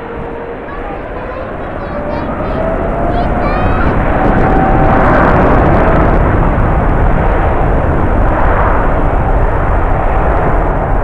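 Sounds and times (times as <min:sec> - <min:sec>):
jet engines running: 0:00.0 - 0:11.0
wind buffeting microphone: 0:00.0 - 0:11.0.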